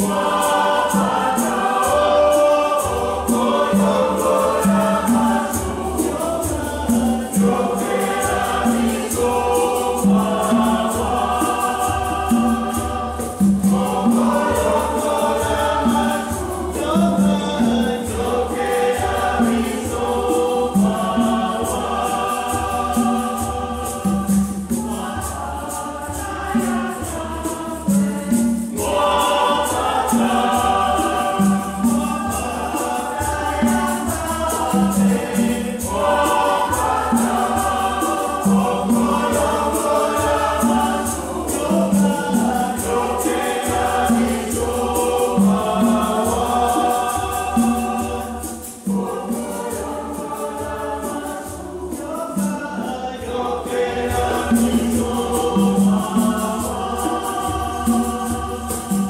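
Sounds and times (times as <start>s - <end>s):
hand drums beating: 0.0s - 59.0s
mixed choir singing gospel: 0.0s - 59.0s.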